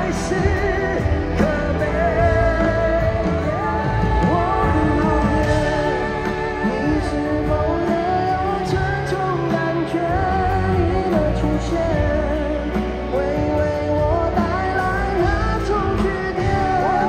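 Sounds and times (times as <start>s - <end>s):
live band with singing: 0.0s - 17.0s.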